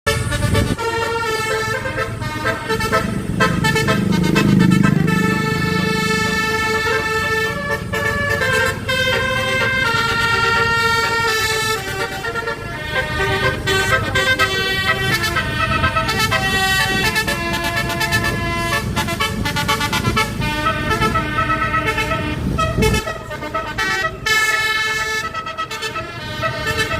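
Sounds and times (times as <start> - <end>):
musical air horn melody: 0.1 - 26.9.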